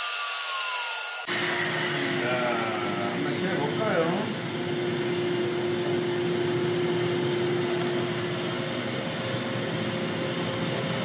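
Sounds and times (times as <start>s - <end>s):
dust extractor running: 0.0s - 11.0s
higher steady hum: 1.3s - 11.0s.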